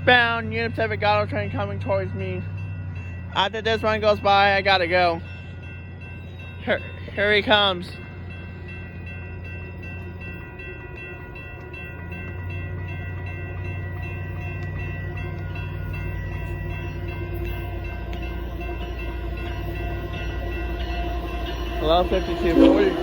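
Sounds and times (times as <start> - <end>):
diesel locomotives rumbling: 0.0 - 23.0.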